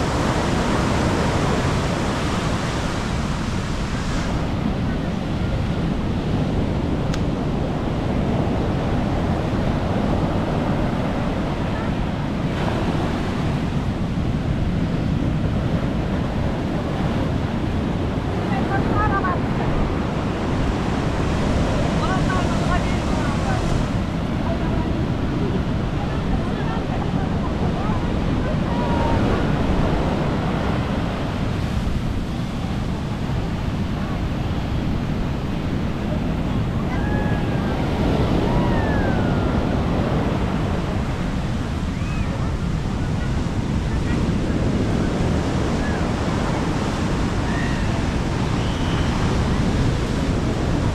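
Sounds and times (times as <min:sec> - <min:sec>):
sea waves washing onto beach: 0:00.0 - 0:50.9
wind rumbling on microphone: 0:00.0 - 0:50.9.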